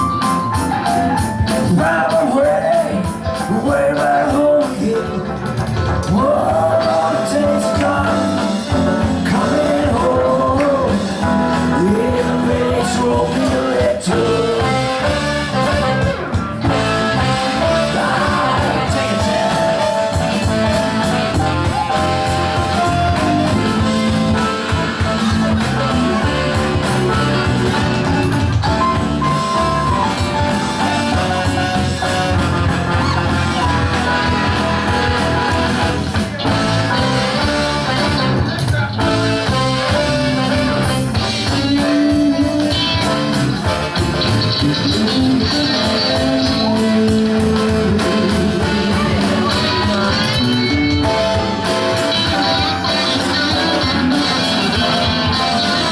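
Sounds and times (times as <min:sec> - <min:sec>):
electric guitar: 0:00.0 - 0:55.9
live rock band playing: 0:00.0 - 0:55.9.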